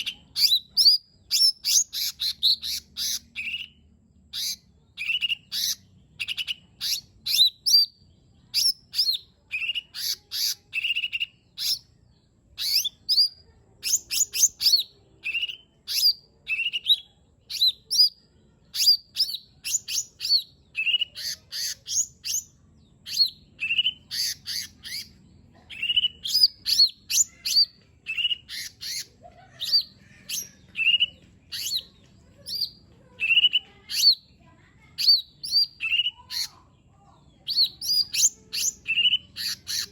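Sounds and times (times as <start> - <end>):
bird singing sharp chirps: 0.0 - 34.4, 35.0 - 36.6, 37.3 - 39.9.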